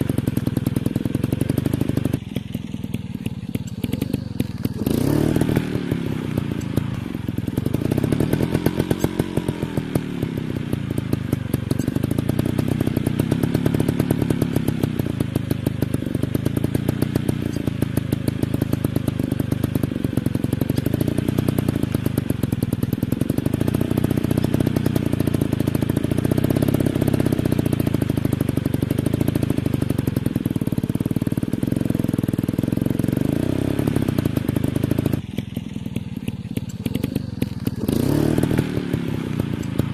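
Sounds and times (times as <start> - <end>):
dirt bike engine revving: 0.0 - 30.0, 31.1 - 39.9.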